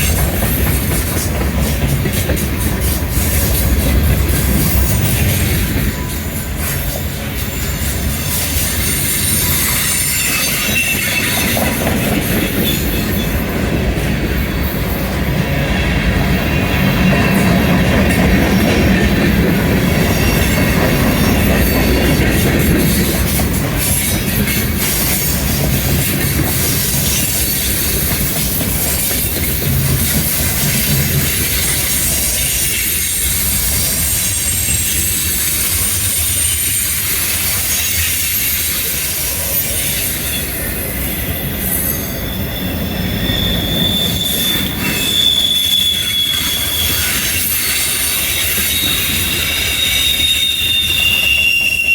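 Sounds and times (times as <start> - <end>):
freight train wheels rumbling: 0.0 - 51.9
high wheel squeal: 0.0 - 51.9.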